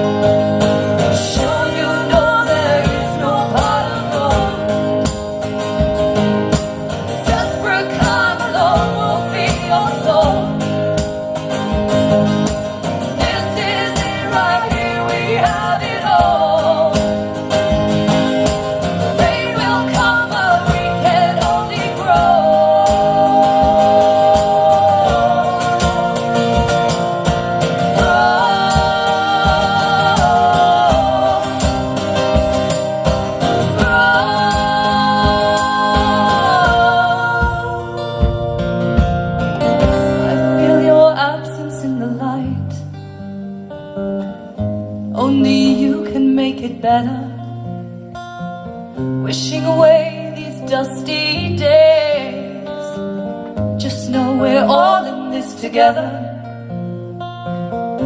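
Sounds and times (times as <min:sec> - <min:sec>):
women singing harmonies: 0:00.0 - 0:05.4, 0:07.0 - 0:11.3, 0:12.9 - 0:38.5, 0:40.0 - 0:43.0, 0:45.1 - 0:47.9, 0:48.9 - 0:56.9
strummed acoustic guitar: 0:00.0 - 0:58.0.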